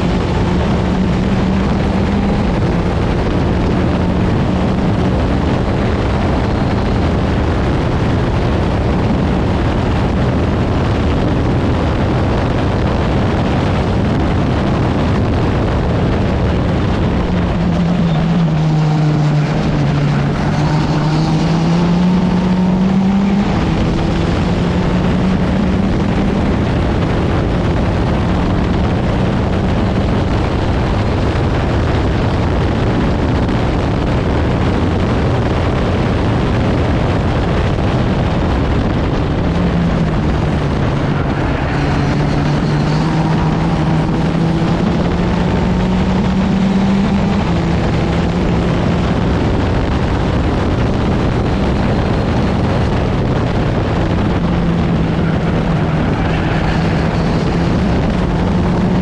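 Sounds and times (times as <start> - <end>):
race car engine: 0.0 - 59.0
wind and road rush: 0.0 - 59.0.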